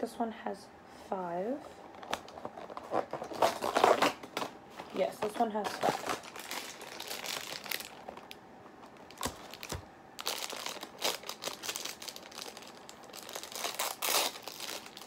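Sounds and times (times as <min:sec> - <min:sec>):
wrapper crinkling: 0:01.9 - 0:15.0.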